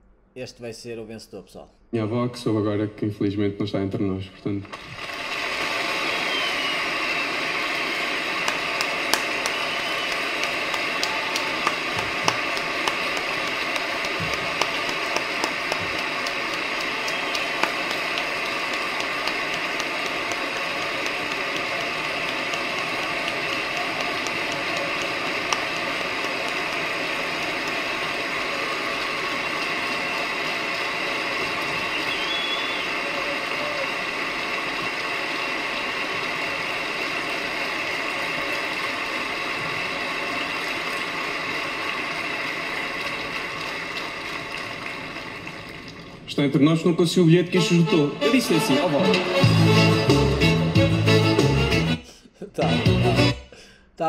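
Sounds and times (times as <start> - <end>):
audience applauding: 4.7 - 52.0.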